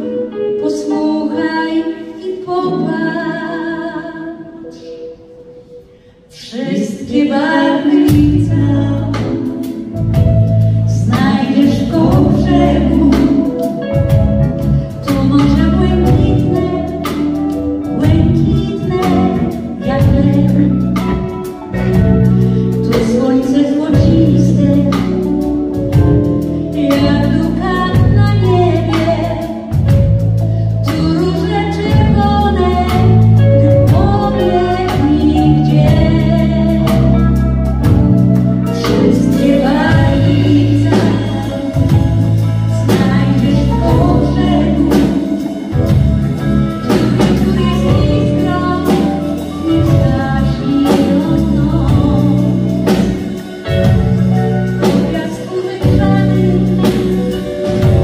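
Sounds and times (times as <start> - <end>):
live band playing: 0.0 - 58.0
drum kit beat: 8.1 - 58.0.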